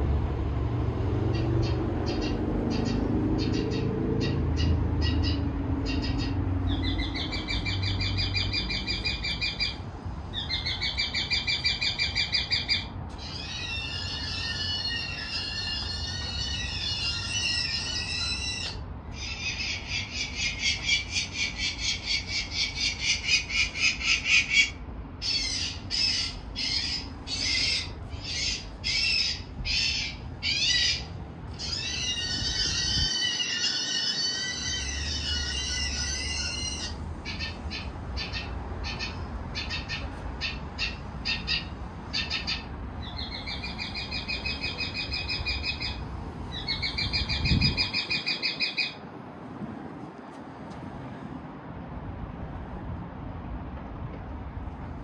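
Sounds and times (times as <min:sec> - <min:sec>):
birds giving shrill trilled calls: 0:01.3 - 0:49.0.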